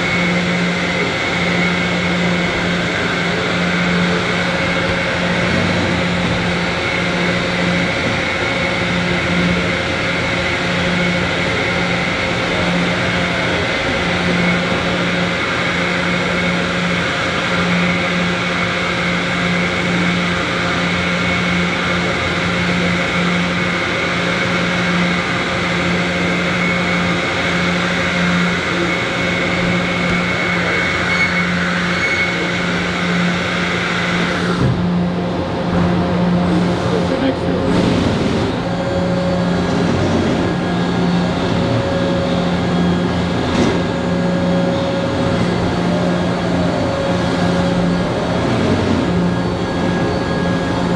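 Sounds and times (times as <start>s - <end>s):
high machine whine: 0.0s - 50.9s
milling machine drone: 0.0s - 50.9s.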